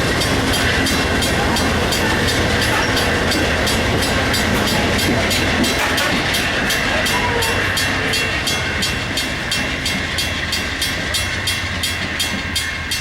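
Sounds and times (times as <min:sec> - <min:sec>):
train wheels clacking on rails: 0:00.0 - 0:13.0
high ringing squeal: 0:00.1 - 0:11.9.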